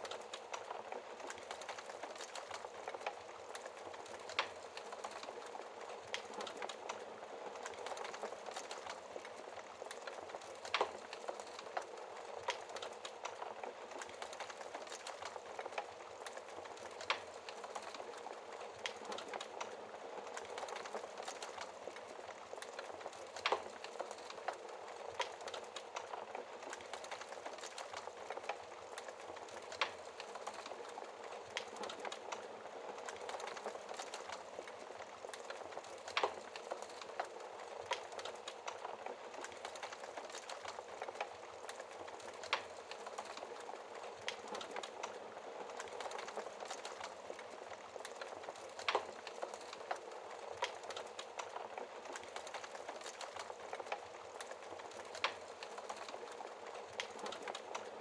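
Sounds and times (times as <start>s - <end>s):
wood fire burning: 0.0s - 58.0s.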